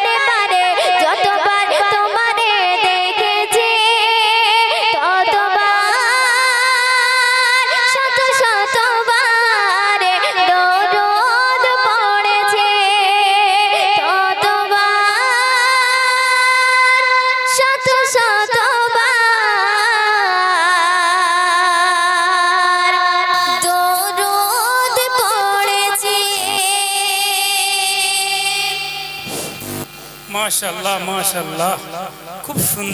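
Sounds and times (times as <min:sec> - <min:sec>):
girl singing into microphone: 0:00.0 - 0:29.1.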